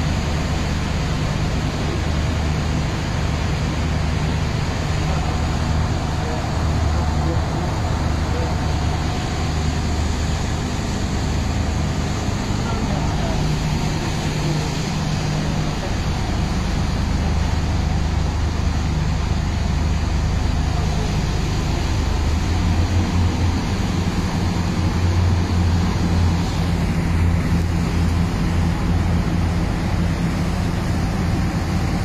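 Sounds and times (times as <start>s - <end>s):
boat engines droning: 0.0s - 32.0s
water churning: 0.0s - 32.0s.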